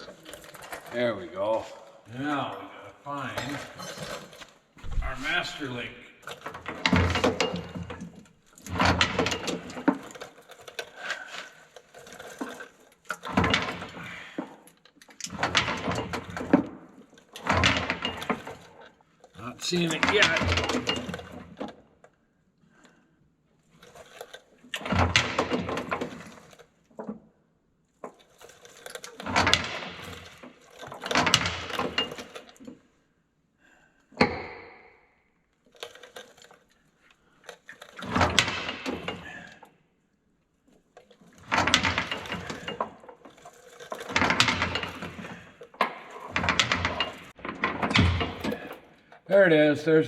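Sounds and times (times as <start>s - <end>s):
drive chain clanking in metal case: 2.1s - 21.9s, 23.7s - 27.2s, 28.0s - 32.9s, 35.7s - 39.7s, 40.9s - 50.0s.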